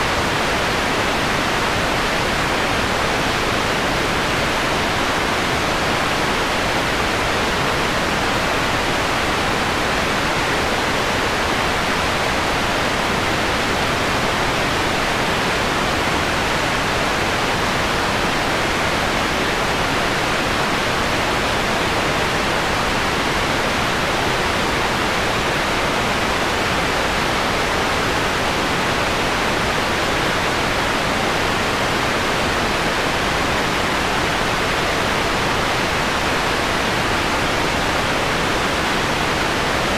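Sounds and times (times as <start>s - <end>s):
filtered white noise hiss: 0.0s - 39.9s.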